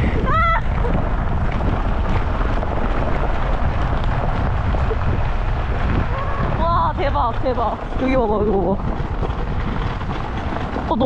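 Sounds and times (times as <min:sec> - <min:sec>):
cart rolling rumble: 0:00.0 - 0:11.0
wind buffeting microphone: 0:00.0 - 0:11.0.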